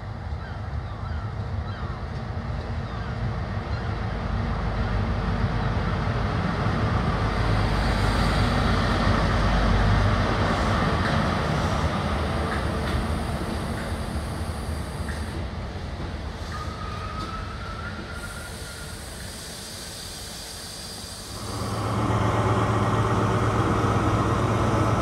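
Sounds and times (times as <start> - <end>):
diesel train engine: 0.0 - 25.0
train wheels rumbling: 2.0 - 25.0.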